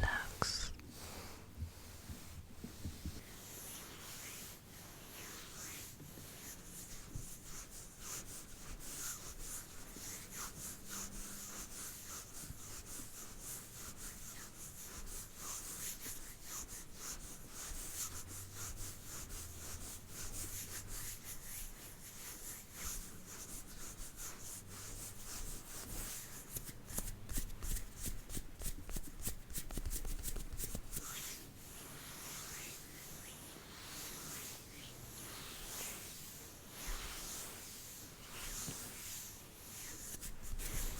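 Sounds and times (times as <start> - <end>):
rubbing and scratching on surface: 1.7 - 40.9.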